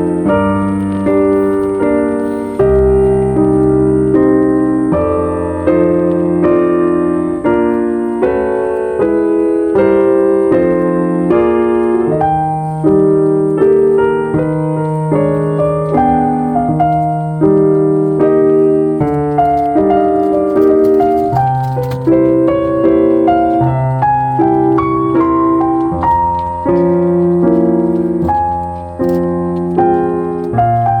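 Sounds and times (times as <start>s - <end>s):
calm solo piano music: 0.0s - 31.0s.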